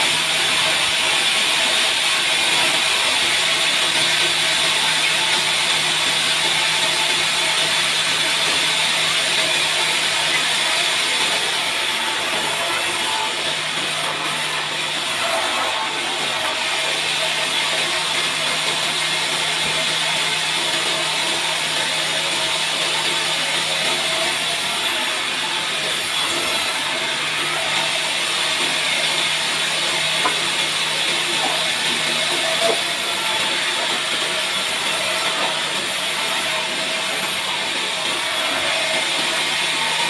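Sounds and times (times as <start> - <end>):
band saw hiss and whir: 0.0 - 40.0.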